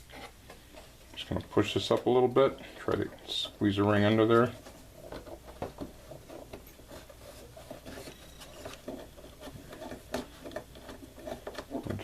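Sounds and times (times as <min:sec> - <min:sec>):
small clicks and rubbing: 0:00.0 - 0:12.0.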